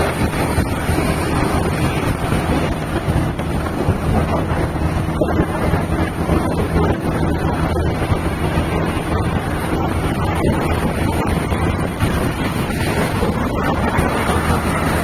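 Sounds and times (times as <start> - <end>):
engine and road rumble: 0.0 - 15.0
wind buffeting microphone: 0.0 - 15.0.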